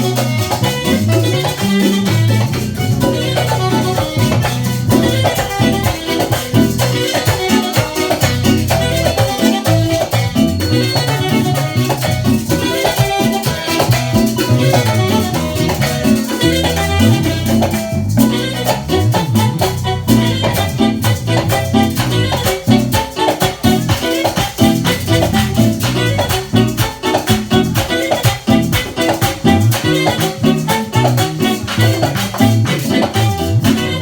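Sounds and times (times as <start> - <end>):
bass line: 0.0 - 34.0
dense percussion: 0.0 - 34.0.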